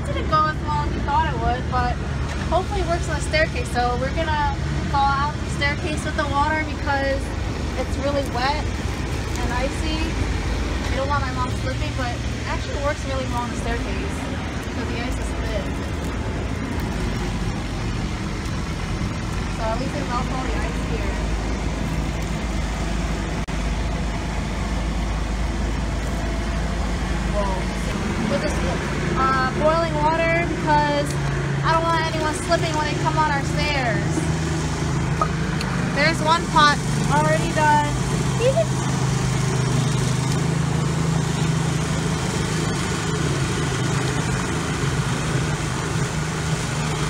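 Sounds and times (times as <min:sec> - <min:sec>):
engine droning: 0:00.0 - 0:47.0
low outdoor rumble: 0:00.0 - 0:47.0
hot water splashing on concrete: 0:00.2 - 0:47.0.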